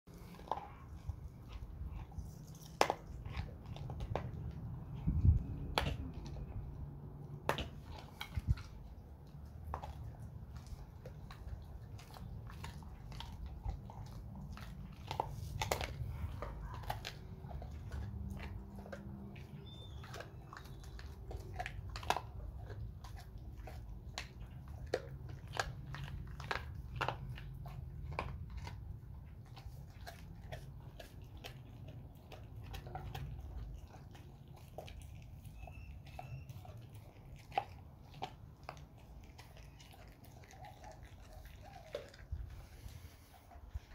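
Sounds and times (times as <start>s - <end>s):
dog chewing bone: 0.1s - 43.9s.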